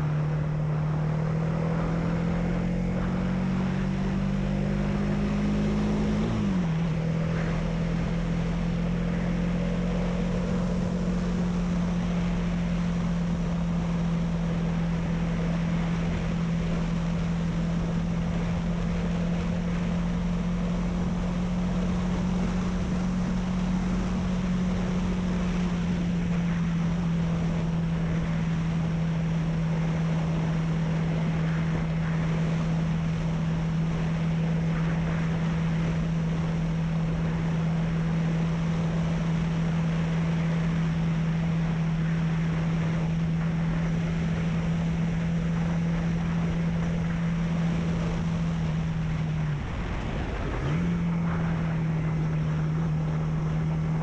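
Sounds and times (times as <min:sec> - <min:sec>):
motorcycle engine cruising: 0:00.0 - 0:54.0
wind rushing on microphone: 0:00.0 - 0:54.0.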